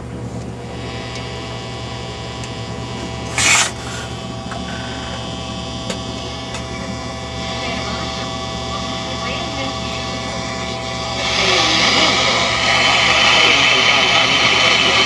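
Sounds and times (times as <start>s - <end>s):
radio speaker hum: 0.0s - 15.0s
radio static: 0.6s - 15.0s.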